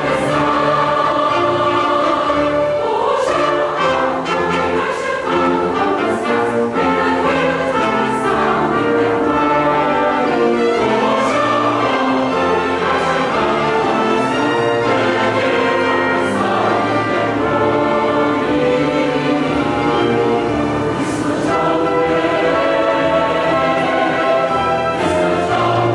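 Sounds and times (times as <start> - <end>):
instrumental accompaniment: 0.0 - 25.9
mixed choir singing: 0.0 - 25.9.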